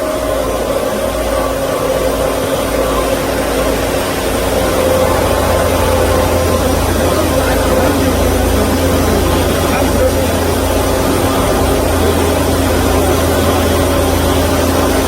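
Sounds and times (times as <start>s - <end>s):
band saw machine whining: 0.0s - 15.0s.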